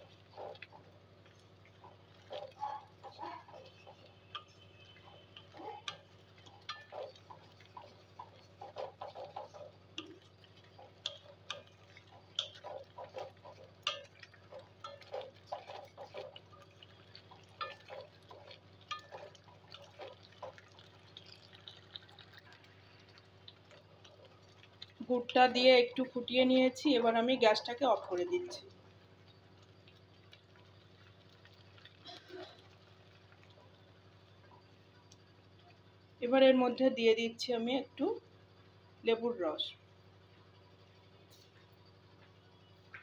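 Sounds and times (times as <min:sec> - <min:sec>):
thick sauce bubbling and popping: 0:00.0 - 0:36.3, 0:39.8 - 0:43.0
low steady hum: 0:00.0 - 0:43.0.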